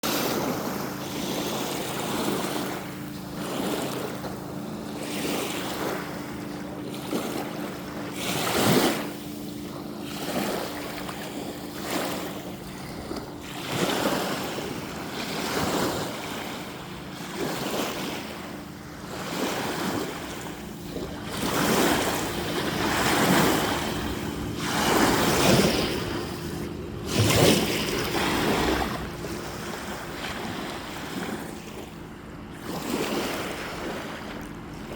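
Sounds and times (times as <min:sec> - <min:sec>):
waves washing in: 0:00.0 - 0:34.9
faint steady hum: 0:00.1 - 0:34.9.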